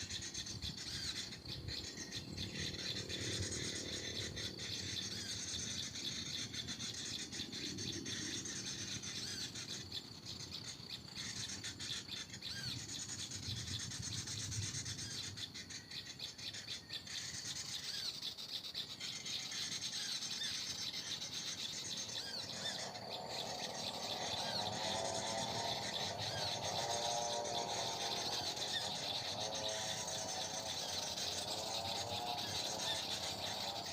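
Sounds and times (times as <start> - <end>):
insect drone: 0.0 - 33.9
small birds chirping: 0.0 - 33.9.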